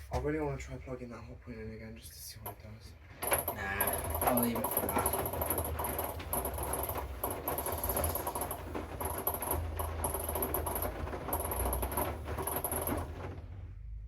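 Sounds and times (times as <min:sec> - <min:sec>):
laundry and water pattering: 0:02.4 - 0:13.6
washing machine drum turning: 0:02.4 - 0:13.7.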